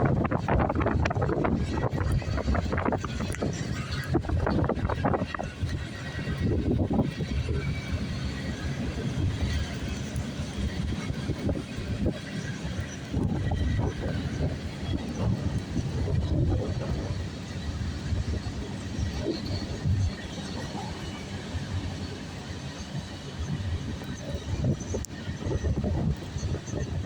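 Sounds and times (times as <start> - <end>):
freight train rumble: 0.0 - 27.0
wheels clattering on rails: 0.0 - 27.0.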